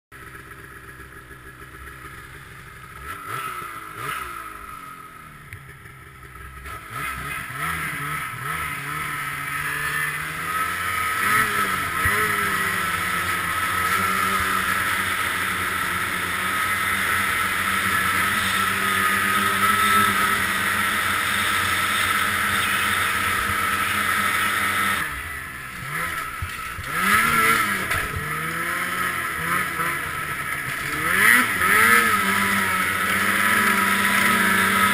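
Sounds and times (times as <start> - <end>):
snowmobile engine revving: 0.2 - 34.9.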